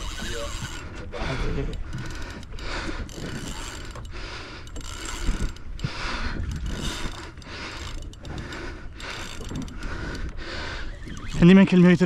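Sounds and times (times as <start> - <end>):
fishing reel gears whirring: 0.0 - 12.0.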